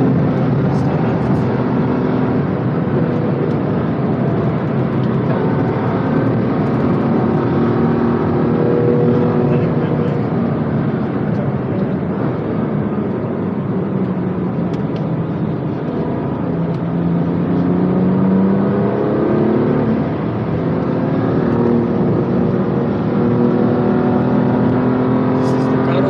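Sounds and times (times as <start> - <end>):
car engine accelerating: 0.0 - 26.0
tyre and road noise: 0.0 - 26.0.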